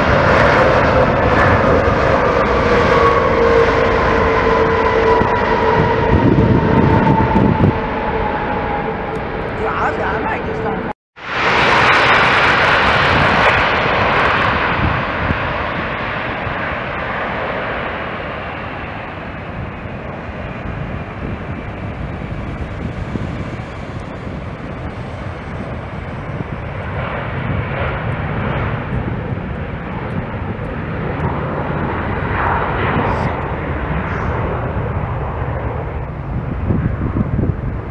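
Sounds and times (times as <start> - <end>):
high engine whine: 0.0 - 37.9
jet engines rumbling: 0.0 - 37.9.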